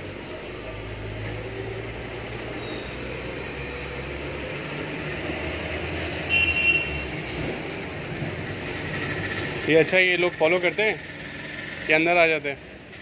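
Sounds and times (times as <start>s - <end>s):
engine humming: 0.0s - 13.0s
road traffic noise: 0.0s - 13.0s.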